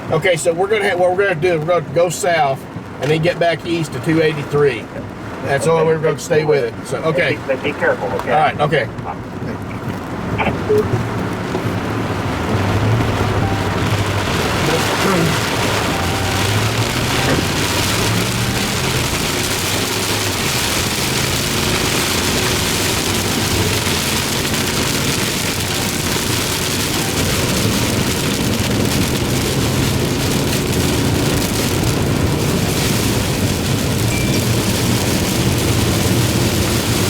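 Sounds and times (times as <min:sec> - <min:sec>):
rain falling on a vehicle: 0:00.0 - 0:37.0
road noise: 0:00.0 - 0:37.0
engine hum: 0:02.6 - 0:37.0.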